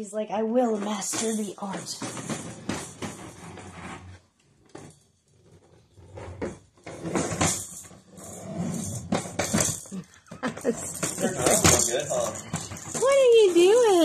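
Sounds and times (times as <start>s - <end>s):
plastic wheels rolling on wood floor: 0.6s - 14.0s.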